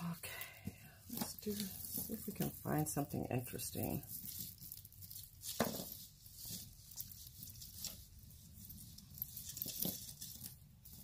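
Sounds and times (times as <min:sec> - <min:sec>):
jewelry chains and beads clinking: 0:00.0 - 0:11.0.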